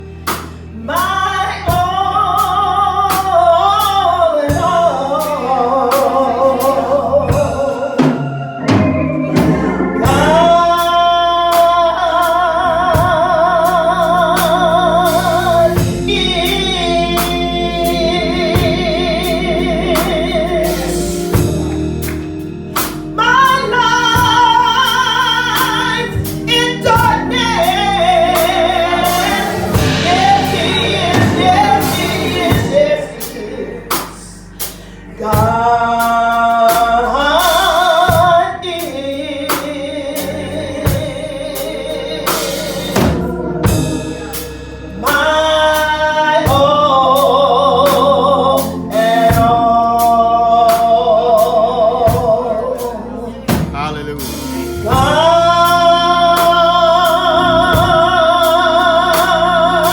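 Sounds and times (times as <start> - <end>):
live band bass and drums: 0.0 - 59.9
woman singing gospel: 0.0 - 59.9.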